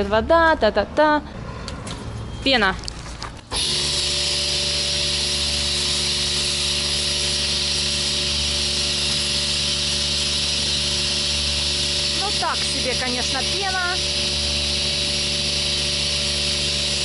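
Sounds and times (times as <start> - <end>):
machine hum: 3.4 - 17.0.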